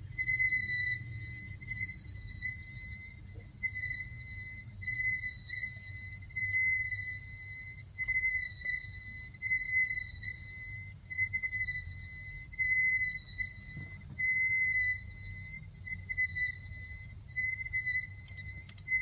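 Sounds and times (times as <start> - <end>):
high-pitched mechanical squeal: 0.0 - 19.0.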